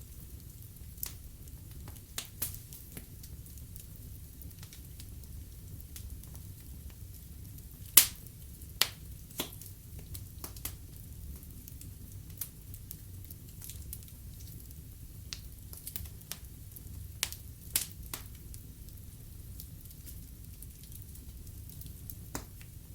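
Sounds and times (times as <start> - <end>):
fire crackling and popping: 0.0 - 22.9
low rumble of flames: 0.0 - 22.9.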